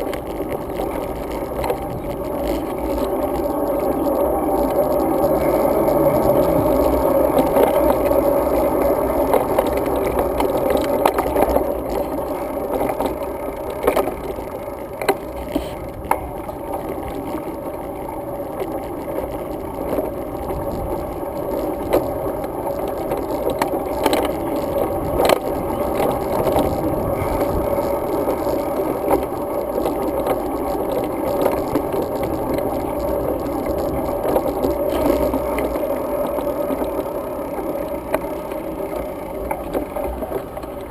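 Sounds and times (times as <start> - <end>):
bike rattling clicks: 0.0 - 40.9
bike tyres and wind rumble: 0.0 - 40.9.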